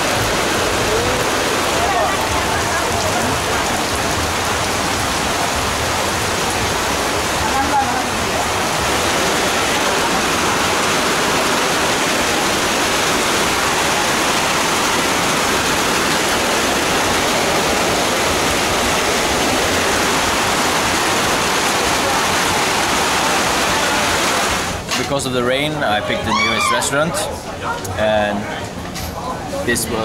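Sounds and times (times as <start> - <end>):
rain falling: 0.0 - 25.3.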